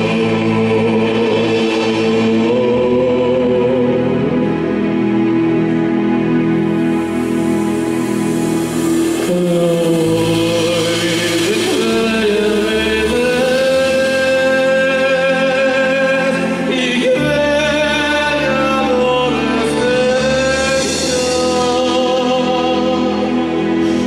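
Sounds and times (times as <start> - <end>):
man singing long held notes: 0.0 - 5.7, 6.7 - 24.0
low drone: 0.0 - 24.0
sustained accompanying chords: 0.0 - 24.0.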